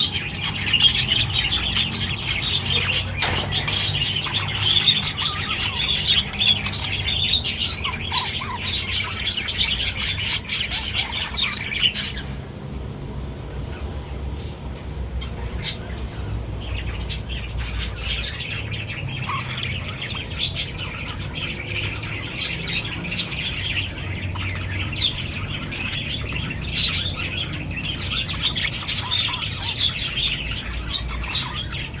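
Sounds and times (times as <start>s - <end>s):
bird squawks: 0.0s - 12.4s, 16.9s - 32.0s
birds chattering and chirping: 0.0s - 32.0s.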